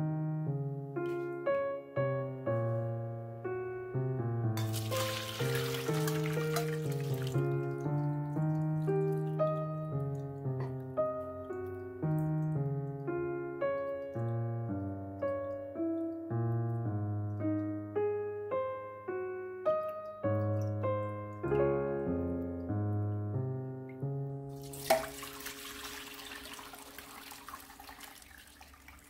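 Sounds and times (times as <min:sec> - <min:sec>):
piano music: 0:00.0 - 0:28.5.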